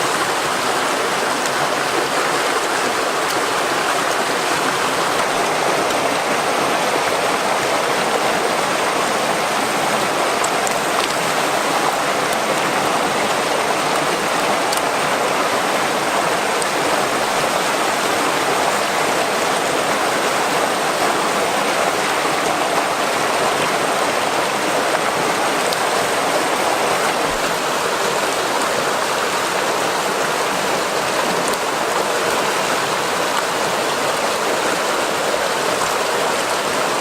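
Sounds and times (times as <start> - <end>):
river water flowing and splashing: 0.0 - 37.0.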